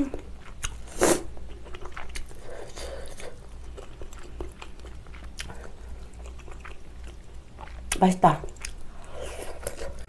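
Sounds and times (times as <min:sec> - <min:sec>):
close chewing and mouth sounds: 0:00.0 - 0:10.0.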